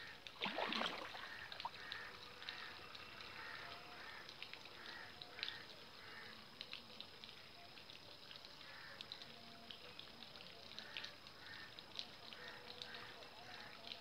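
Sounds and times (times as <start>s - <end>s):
water drips and splashes: 0.0s - 14.0s.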